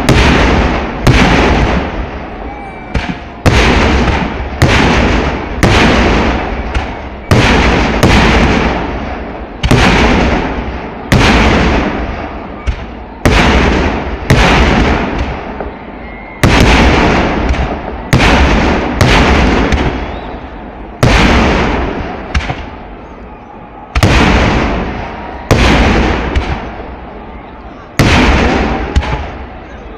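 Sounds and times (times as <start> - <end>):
fireworks blasts with rumbling echo: 0.0 - 29.9.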